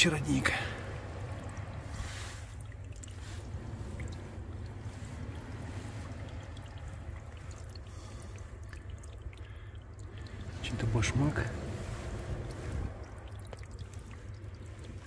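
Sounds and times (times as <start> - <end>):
low steady rumble: 0.0 - 15.0
spring water trickling: 0.0 - 15.0.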